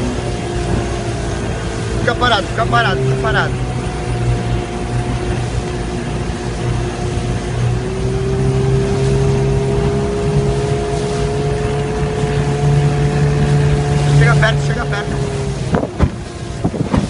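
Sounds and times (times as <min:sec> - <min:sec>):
motorboat engine running: 0:00.0 - 0:17.0
water rushing: 0:00.0 - 0:17.0
wind: 0:00.0 - 0:17.0.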